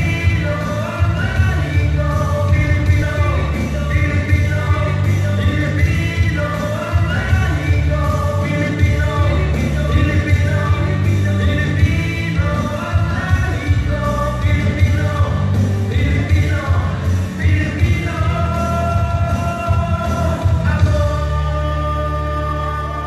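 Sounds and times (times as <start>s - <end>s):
man singing into a microphone: 0.0s - 23.0s
music with heavy bass line: 0.0s - 23.0s.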